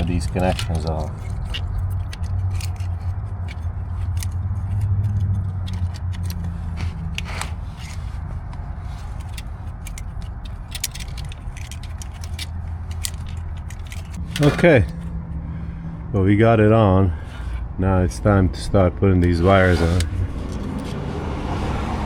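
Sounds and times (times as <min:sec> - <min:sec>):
wiring harness clicks and rattles: 0:00.0 - 0:15.8, 0:18.2 - 0:21.0
low hum: 0:00.0 - 0:22.0.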